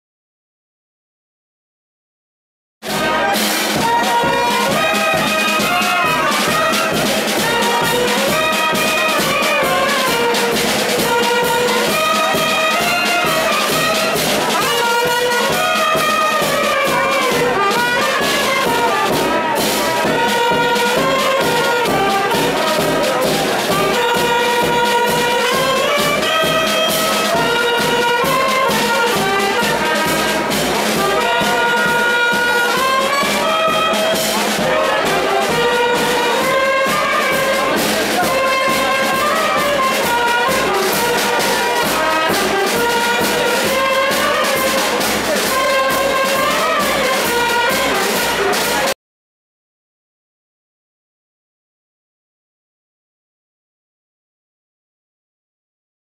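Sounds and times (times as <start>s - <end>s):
brass band playing: 2.8s - 49.0s.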